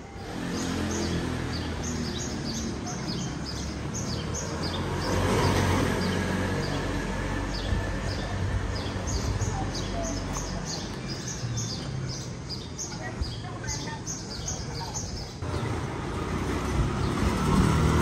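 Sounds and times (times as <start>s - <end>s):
street noise: 0.0s - 18.0s
small birds chirping: 0.1s - 18.0s.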